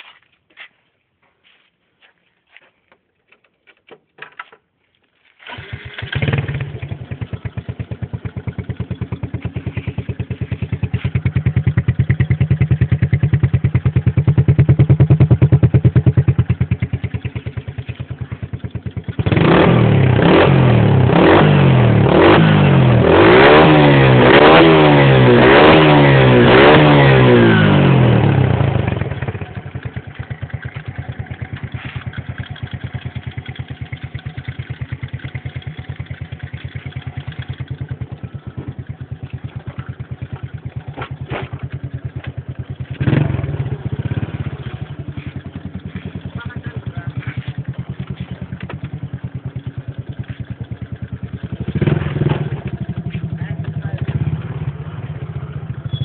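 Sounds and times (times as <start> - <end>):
motorcycle engine revving: 5.4 - 56.0.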